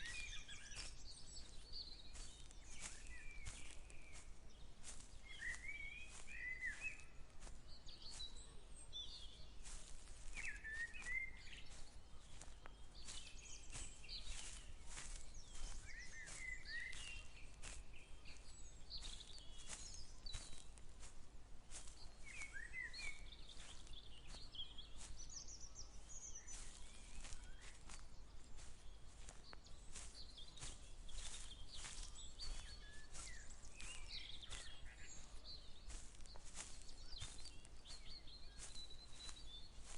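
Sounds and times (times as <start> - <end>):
birds chirping: 0.0 - 39.9
footsteps crunching through grass: 0.0 - 39.9.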